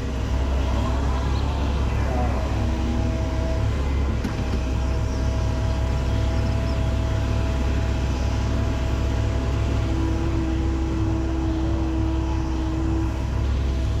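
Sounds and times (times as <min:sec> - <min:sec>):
heavy machinery engine rumbling: 0:00.0 - 0:14.0.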